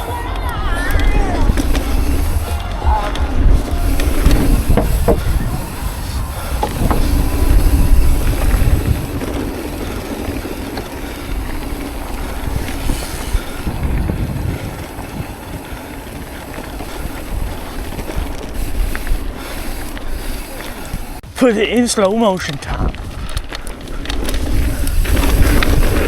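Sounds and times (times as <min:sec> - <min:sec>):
wind buffeting microphone: 0:00.0 - 0:21.4, 0:22.5 - 0:26.0
bike rattle and tyre rumble: 0:00.0 - 0:26.0.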